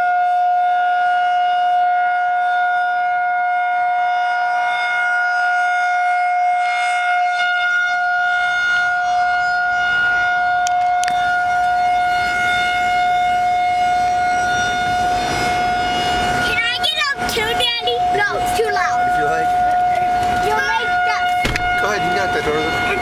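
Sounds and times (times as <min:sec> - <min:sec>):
emergency siren steady tone: 0:00.0 - 0:23.0.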